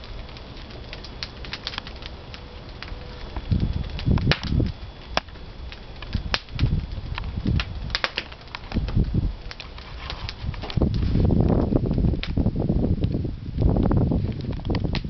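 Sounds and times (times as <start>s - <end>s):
firewood crackling and popping: 0.0s - 15.0s
low rumbling surges: 0.0s - 15.0s.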